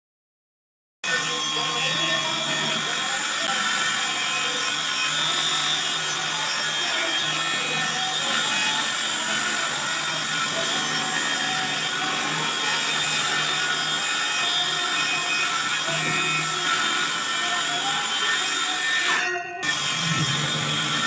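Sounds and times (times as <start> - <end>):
circular saw cutting plywood: 1.0 - 21.0.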